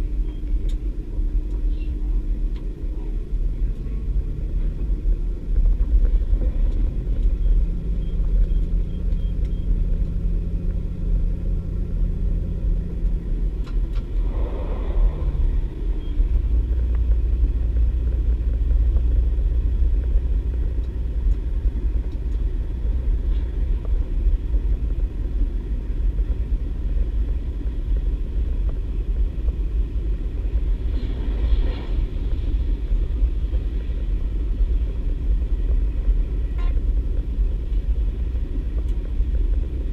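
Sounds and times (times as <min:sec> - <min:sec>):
train diesel engine rumble: 0:00.0 - 0:39.9.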